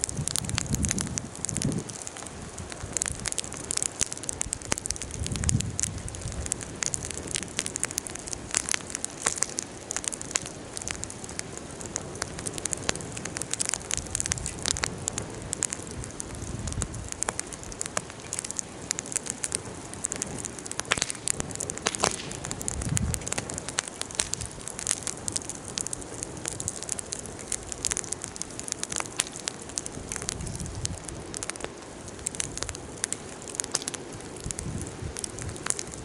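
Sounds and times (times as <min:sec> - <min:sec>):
campfire crackling and popping: 0:00.0 - 0:36.0
hiss of flame: 0:00.0 - 0:36.0.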